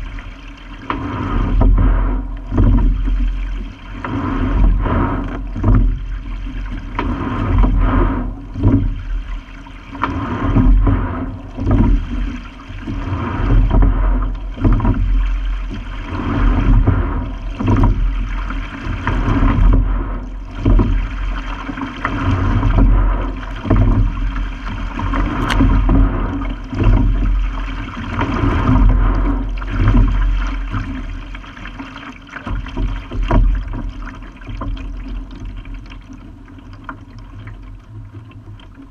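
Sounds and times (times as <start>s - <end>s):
water rushing along a hull: 0.0s - 38.9s.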